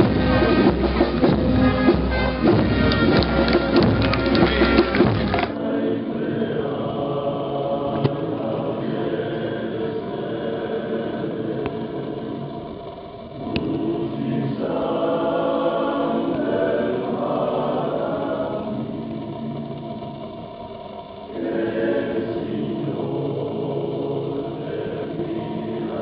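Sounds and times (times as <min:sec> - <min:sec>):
male choir singing in harmony: 0:00.0 - 0:26.0.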